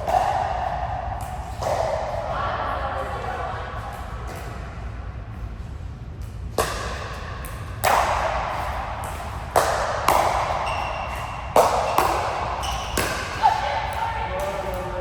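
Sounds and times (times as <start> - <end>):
racket hits echoing in hall: 0.0 - 15.0.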